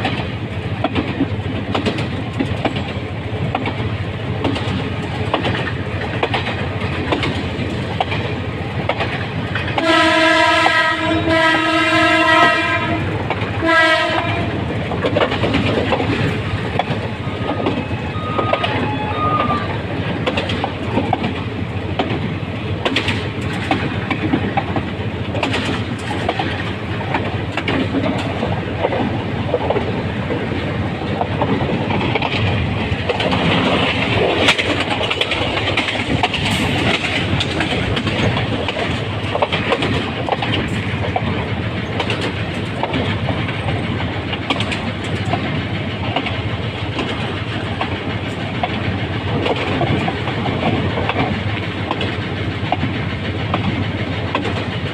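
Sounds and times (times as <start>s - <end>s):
locomotive running noise: 0.0s - 54.9s
wheels clicking over rail joints: 0.0s - 54.9s.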